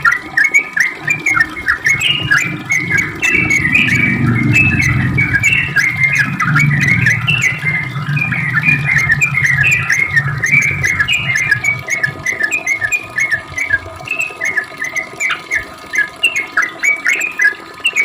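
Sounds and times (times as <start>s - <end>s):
bird chirping: 0.7s - 18.0s.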